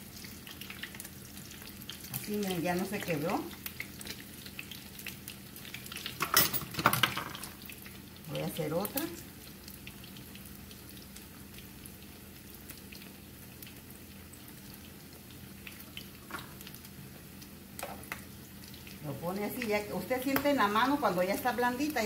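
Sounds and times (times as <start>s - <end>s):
oil sizzling and crackling: 0.0s - 22.0s.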